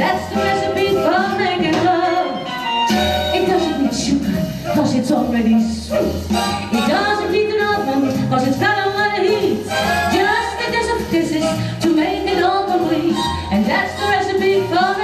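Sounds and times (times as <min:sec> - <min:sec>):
woman singing: 0:00.0 - 0:06.1, 0:06.7 - 0:15.0
instrumental accompaniment: 0:00.0 - 0:15.0.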